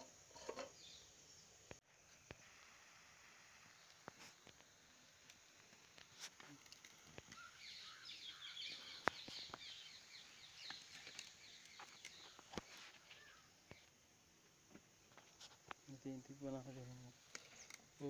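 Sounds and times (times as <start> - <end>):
small birds twittering: 0.0 - 2.6, 3.4 - 14.0, 15.6 - 18.0.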